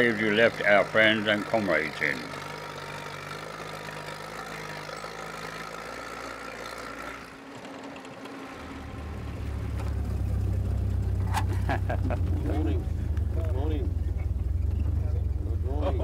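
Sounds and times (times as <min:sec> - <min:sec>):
jeep engine running: 0:00.0 - 0:16.0.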